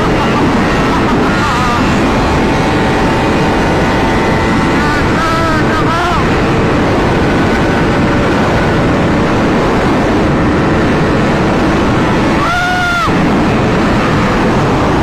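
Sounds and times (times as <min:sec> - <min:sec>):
motorcycle engine and wind rush: 0:00.0 - 0:15.0.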